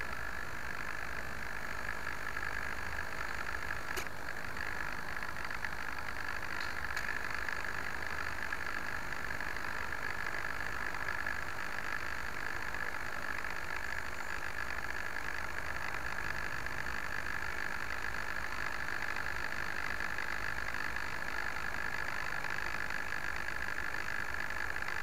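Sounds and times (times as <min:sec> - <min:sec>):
constant high electrical whine: 0:00.0 - 0:25.0.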